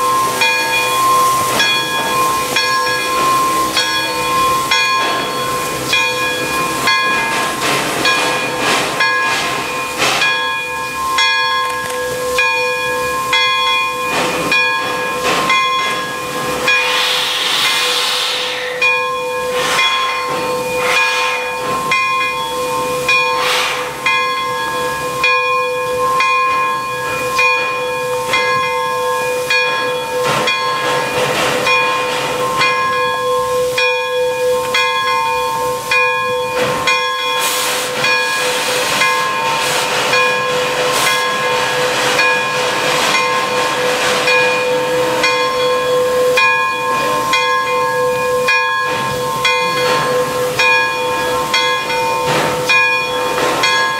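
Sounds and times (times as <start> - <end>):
steam locomotive hissing steam: 0.0 - 53.9.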